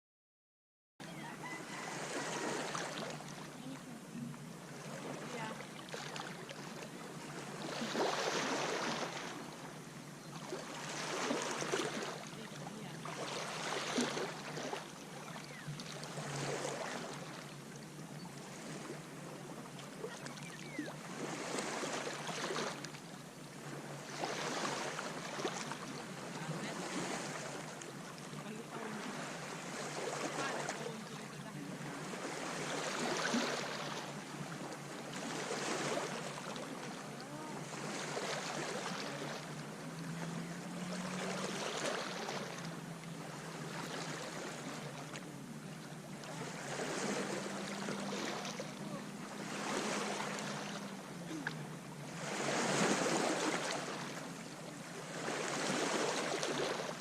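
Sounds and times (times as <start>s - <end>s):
small sea waves breaking on sand: 1.2s - 57.0s.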